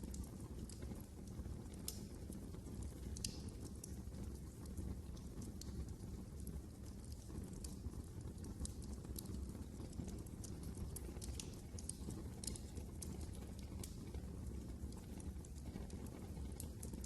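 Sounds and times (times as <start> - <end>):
fire crackling in fireplace: 0.0 - 17.0.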